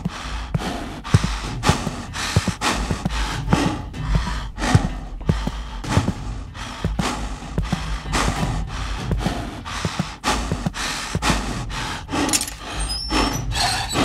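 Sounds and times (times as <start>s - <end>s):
heavy breathing through rubber mask: 0.0s - 14.0s.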